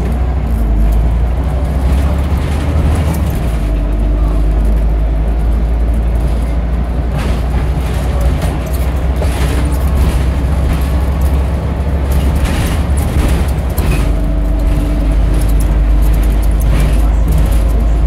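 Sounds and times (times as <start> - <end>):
bus diesel engine hum: 0.0 - 18.0
engine whine: 0.0 - 18.0
light rattles: 0.0 - 18.0.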